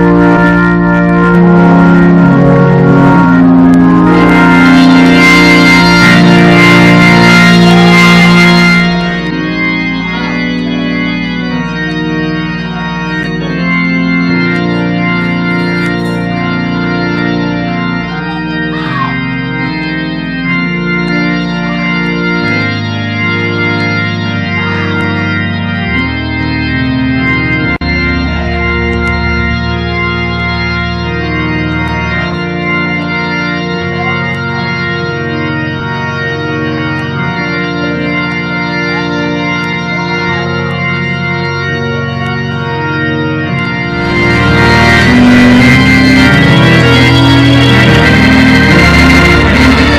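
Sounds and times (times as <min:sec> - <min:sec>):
organ chords: 0:00.0 - 0:49.9.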